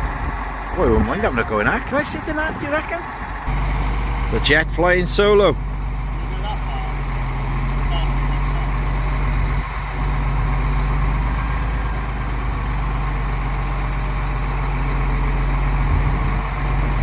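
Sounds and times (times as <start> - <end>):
heavy vehicle engine idling: 0.0 - 17.0.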